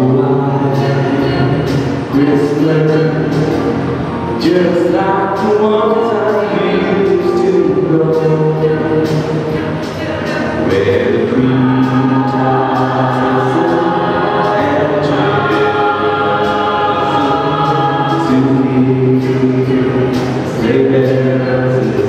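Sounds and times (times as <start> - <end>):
choir singing in harmony: 0.0 - 22.0.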